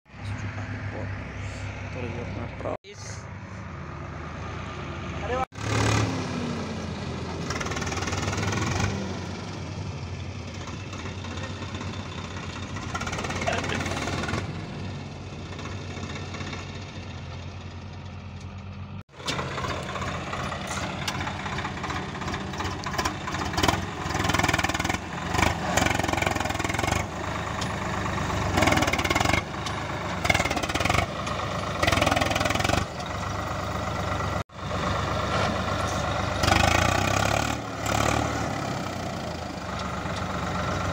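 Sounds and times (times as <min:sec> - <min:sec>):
tractor diesel engine under load: 0:00.1 - 0:40.9.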